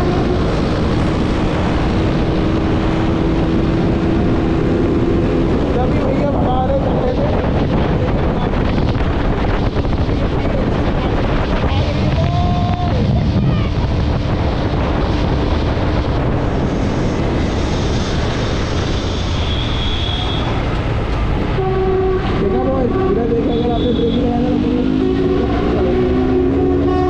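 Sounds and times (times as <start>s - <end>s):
wind buffeting microphone: 0.0s - 23.5s
motorcycle running at speed: 0.0s - 27.0s.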